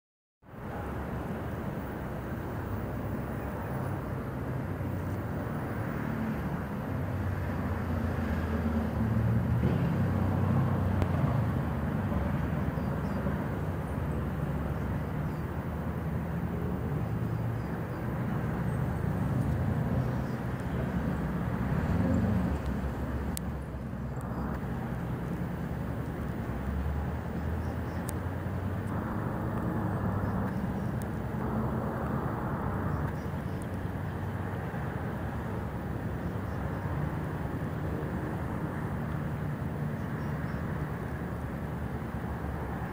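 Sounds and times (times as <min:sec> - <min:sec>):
distant engines rumbling: 0:00.5 - 0:42.9.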